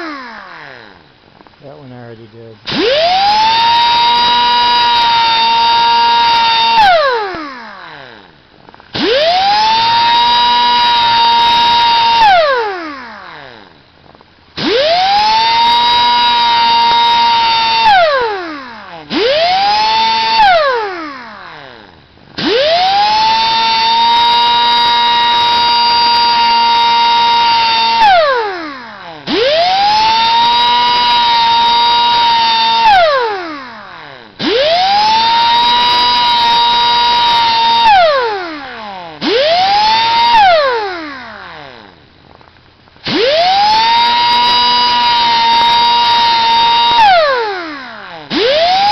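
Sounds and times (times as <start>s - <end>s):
rotary grinder whining: 0.0s - 48.9s.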